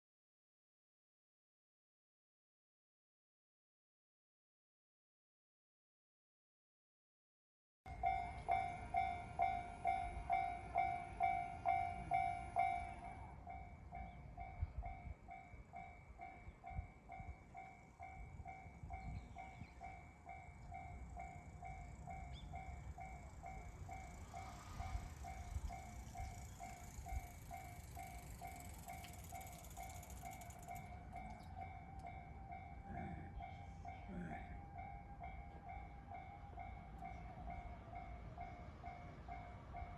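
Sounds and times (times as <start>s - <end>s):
level crossing warning bell: 7.9s - 39.9s
train rumbling: 7.9s - 39.9s.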